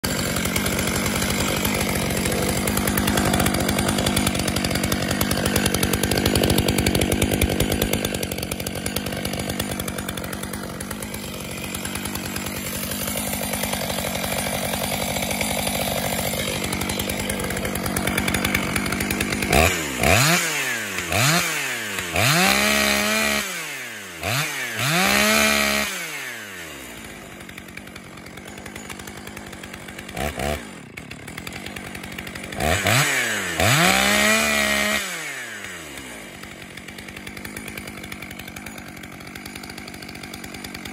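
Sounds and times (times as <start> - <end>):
chainsaw idling: 0.0 - 40.9
chainsaw throttle blips: 0.0 - 40.9.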